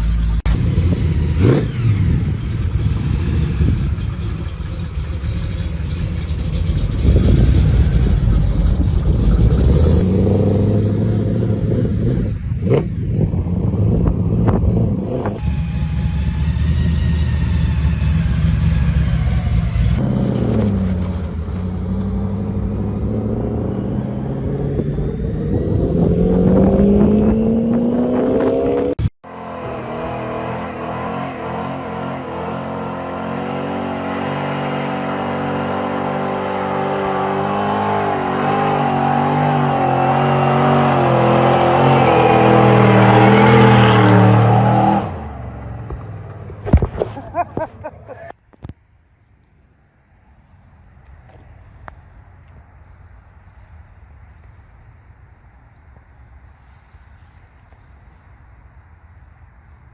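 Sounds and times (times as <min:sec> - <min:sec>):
drag car engines revving: 0:00.0 - 0:48.2.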